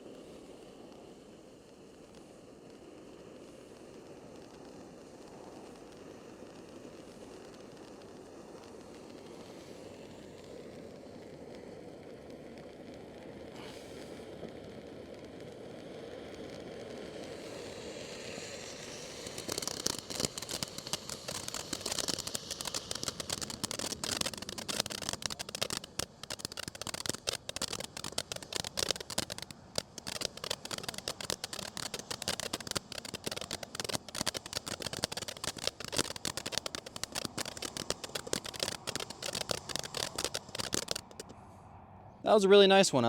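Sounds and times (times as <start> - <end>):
firework fountain hissing and crackling: 0.0 - 41.3.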